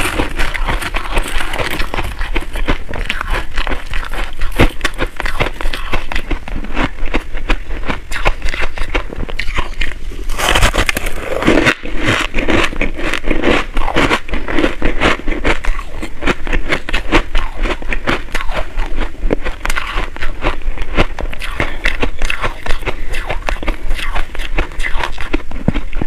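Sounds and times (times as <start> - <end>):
chewing ice crunches: 0.0 - 26.0.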